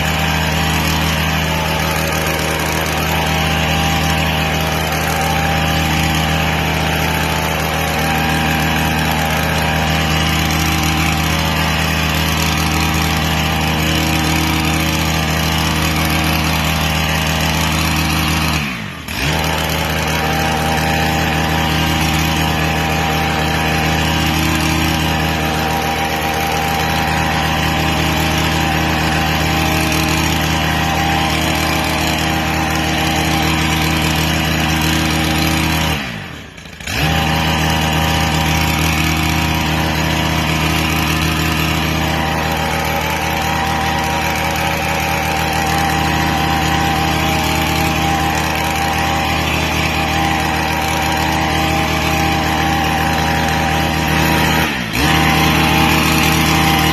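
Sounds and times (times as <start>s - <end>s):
hedge trimmer engine running: 0.0s - 56.9s.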